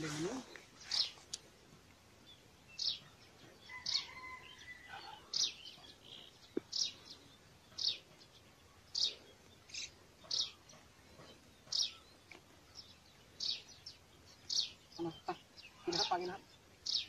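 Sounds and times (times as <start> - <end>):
bird chirping: 0.0 - 1.6, 2.2 - 17.0.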